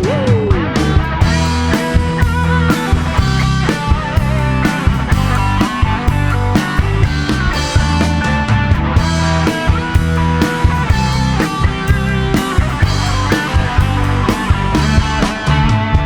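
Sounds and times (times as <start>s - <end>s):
bass guitar: 0.0s - 16.0s
electric guitar lead: 0.0s - 16.0s
steady drum beat: 0.0s - 16.0s.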